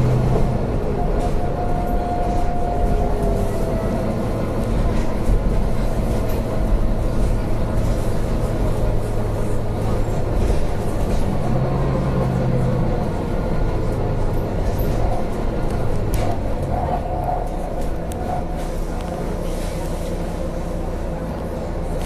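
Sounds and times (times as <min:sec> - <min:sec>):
bus diesel engine drone: 0:00.0 - 0:22.0
road and body noise: 0:00.0 - 0:22.0.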